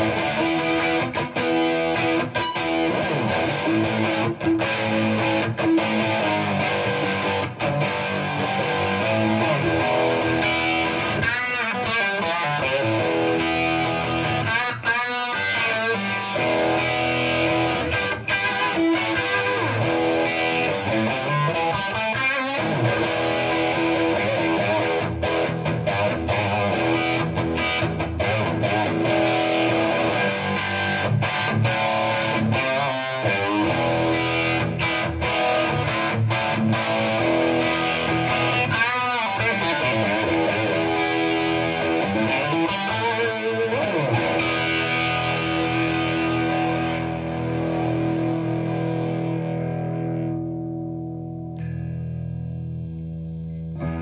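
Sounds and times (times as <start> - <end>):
overdriven electric guitar riffing: 0.0 - 54.0.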